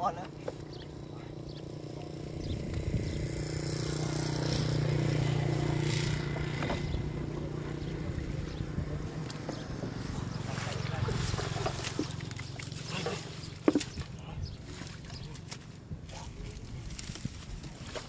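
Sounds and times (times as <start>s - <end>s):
small engine passing by: 0.2s - 15.9s.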